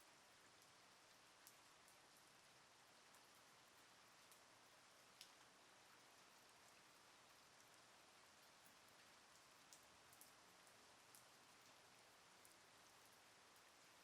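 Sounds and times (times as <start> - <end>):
light rain hiss: 0.0 - 14.0.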